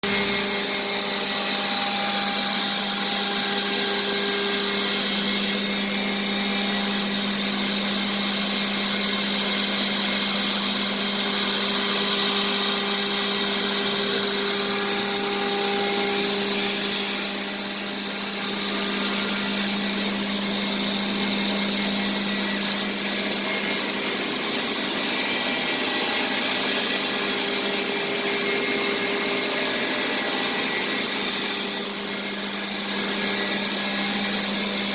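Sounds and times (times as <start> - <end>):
cnc router spindle humming: 0.0 - 34.9
hiss of bit cutting plastic: 0.0 - 34.9.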